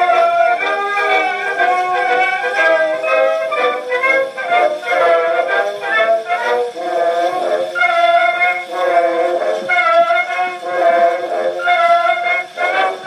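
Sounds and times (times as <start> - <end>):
phonograph record melody: 0.0 - 13.0.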